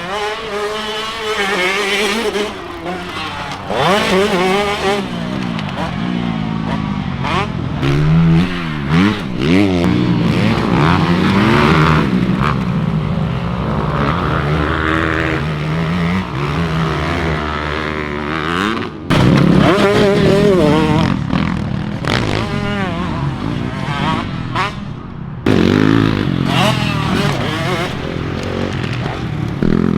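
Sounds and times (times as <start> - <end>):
two-stroke motocross engine revving: 0.0 - 24.9, 25.5 - 29.9.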